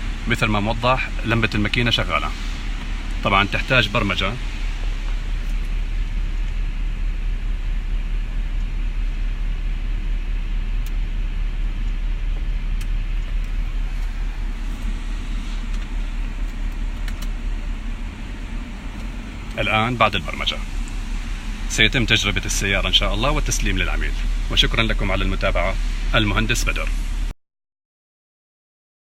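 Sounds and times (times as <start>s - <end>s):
car engine idling: 0.0s - 27.3s.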